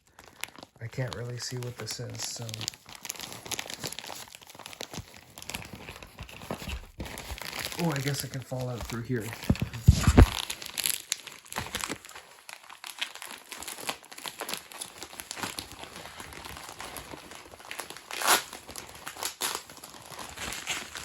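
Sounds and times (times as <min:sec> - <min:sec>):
packaging crinkling and rustling: 0:00.0 - 0:21.0.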